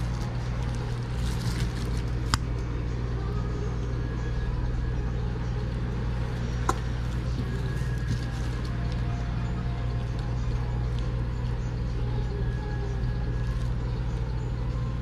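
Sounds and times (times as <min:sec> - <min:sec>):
kitchen equipment humming: 0:00.0 - 0:15.0.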